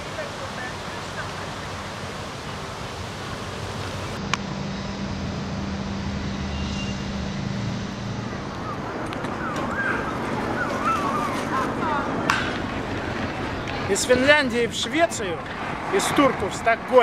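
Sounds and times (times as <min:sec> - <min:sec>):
low engine hum: 0:00.0 - 0:16.6
steady wind noise: 0:00.0 - 0:17.0.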